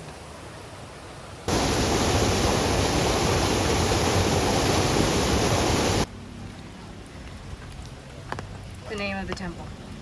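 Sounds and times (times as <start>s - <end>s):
water pouring and splashing: 1.4s - 9.5s.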